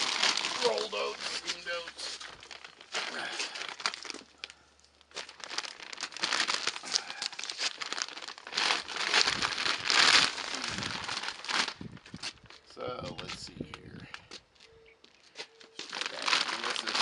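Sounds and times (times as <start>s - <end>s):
feed sack crinkling: 0.0s - 13.4s, 15.4s - 17.0s.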